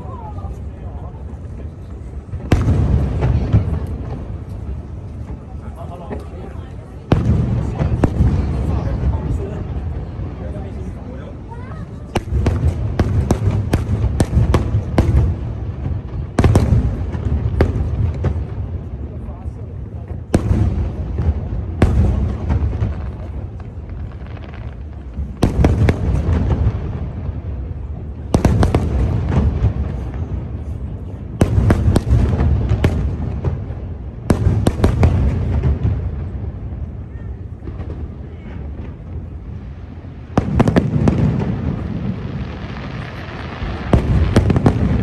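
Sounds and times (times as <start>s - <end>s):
continuous low rumble: 0.0s - 45.0s
fireworks bangs: 0.0s - 45.0s.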